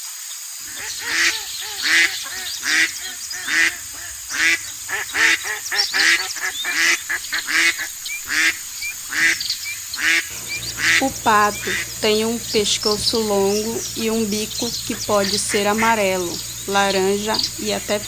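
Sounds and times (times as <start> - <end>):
ducks quacking: 0.6 - 18.0.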